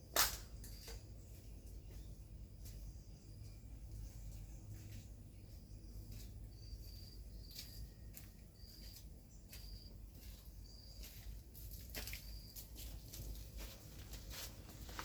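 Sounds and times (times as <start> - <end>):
cricket chirping: 0.0 - 13.6.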